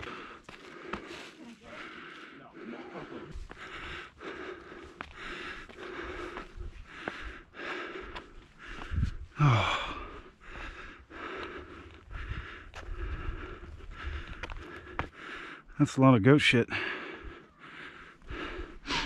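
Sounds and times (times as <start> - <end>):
gasp with falling groan: 0.0 - 15.7, 16.7 - 19.0
person breathing heavily: 0.0 - 15.8, 16.7 - 19.0.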